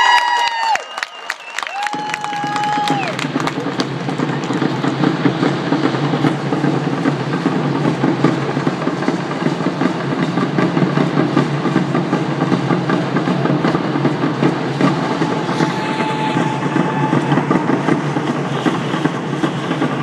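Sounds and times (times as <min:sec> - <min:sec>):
drumming: 0:00.0 - 0:20.0.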